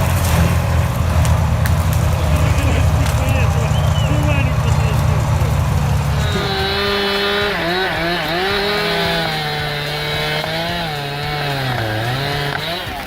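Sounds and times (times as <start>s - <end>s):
chainsaw engine at high revs: 0.0s - 13.0s.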